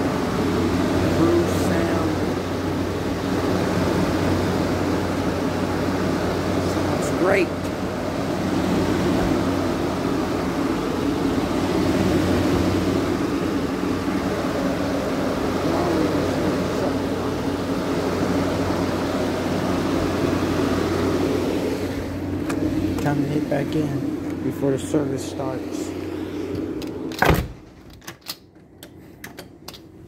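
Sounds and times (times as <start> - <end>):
compressor humming: 0.0 - 30.0
condenser fan moving air: 0.0 - 30.0.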